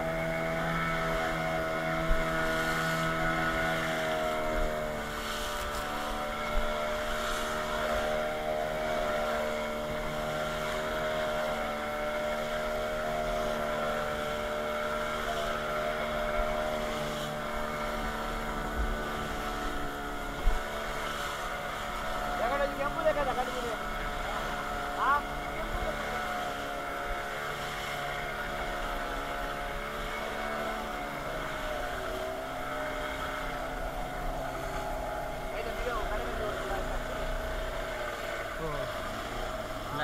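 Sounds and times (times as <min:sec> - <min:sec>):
boat motor running: 0:00.0 - 0:40.0.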